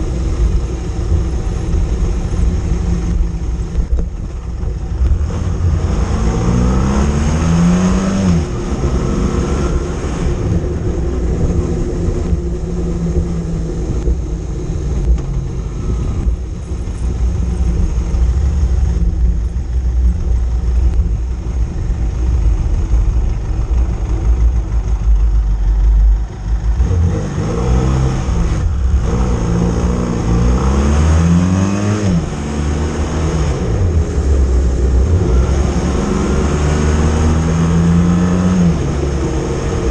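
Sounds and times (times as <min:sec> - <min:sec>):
motorcycle engine revving: 0:00.0 - 0:15.5, 0:16.1 - 0:39.9.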